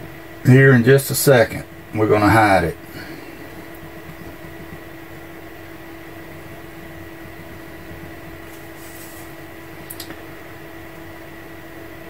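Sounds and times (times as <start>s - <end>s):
steady room hum: 0.0s - 12.0s.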